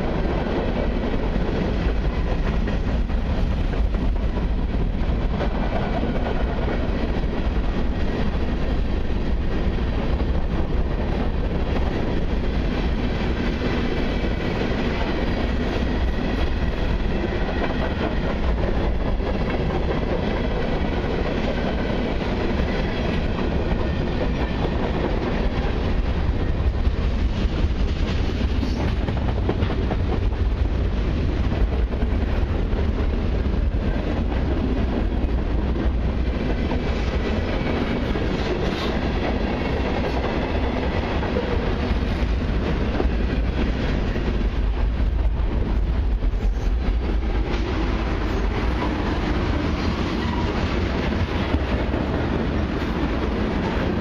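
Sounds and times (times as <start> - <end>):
freight train wheels clattering on rails: 0.0 - 54.0.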